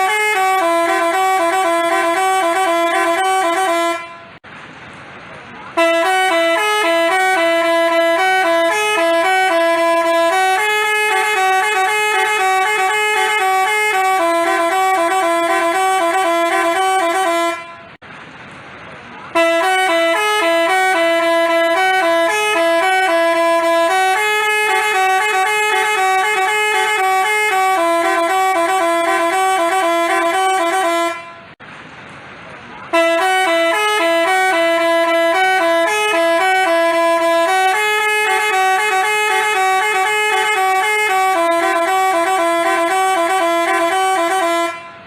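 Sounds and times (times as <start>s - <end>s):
bus horn playing a tune: 0.0s - 4.4s, 5.7s - 18.0s, 19.2s - 31.6s, 32.9s - 45.0s.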